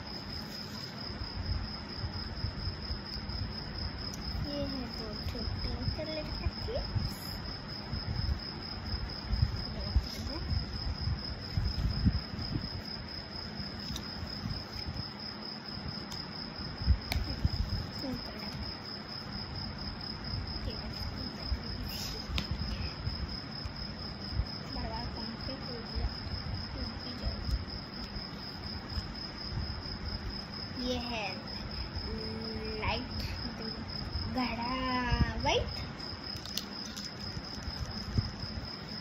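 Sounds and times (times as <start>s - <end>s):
cricket trilling: 0.0s - 39.0s.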